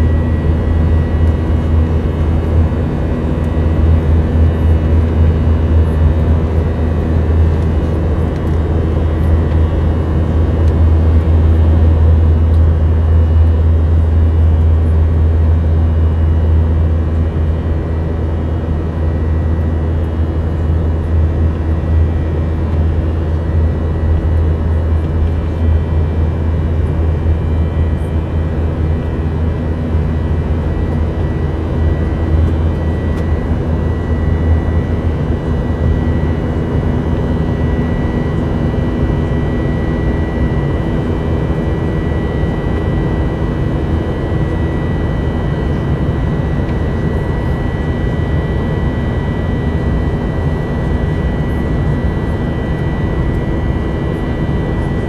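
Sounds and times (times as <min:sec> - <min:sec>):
jet engines and rushing air drone: 0:00.0 - 0:55.0.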